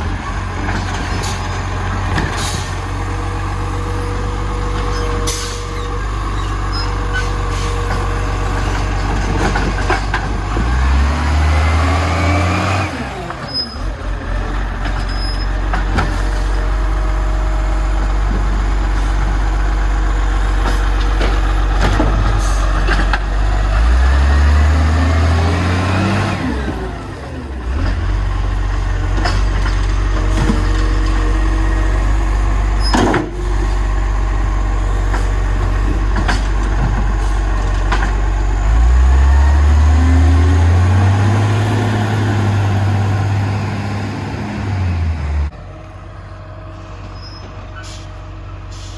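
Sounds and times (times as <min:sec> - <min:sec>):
diesel truck engine idling and revving: 0:00.0 - 0:48.9.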